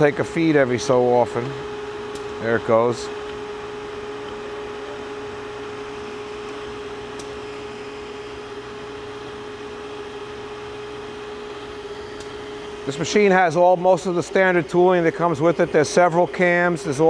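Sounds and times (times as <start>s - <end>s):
grinding machine hum: 0.0s - 17.0s.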